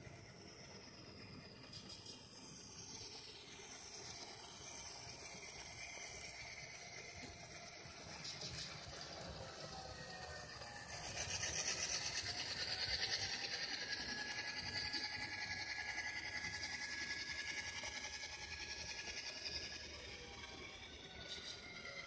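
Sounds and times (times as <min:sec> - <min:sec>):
model train diesel engine sound: 0:00.0 - 0:22.0
thin steady tone: 0:00.0 - 0:22.0.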